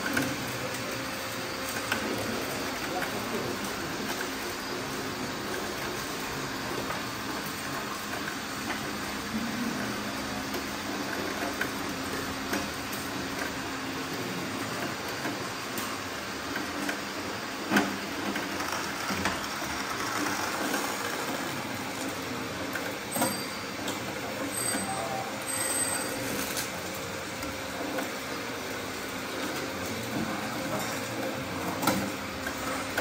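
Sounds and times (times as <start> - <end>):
model machines running: 0.0 - 33.0.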